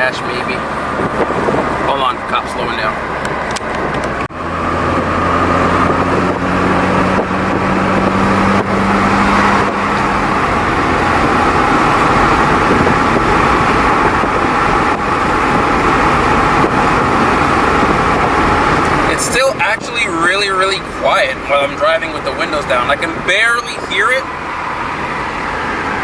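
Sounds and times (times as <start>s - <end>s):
low exhaust grumble: 0.0s - 26.0s
wind and road noise in car: 0.0s - 26.0s.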